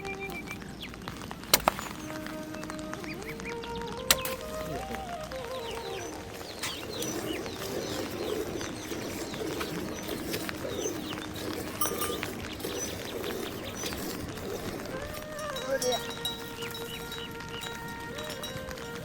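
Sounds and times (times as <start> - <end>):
high falling bird chirps: 0.0 - 18.6
lower wavering bird calls: 0.0 - 19.0.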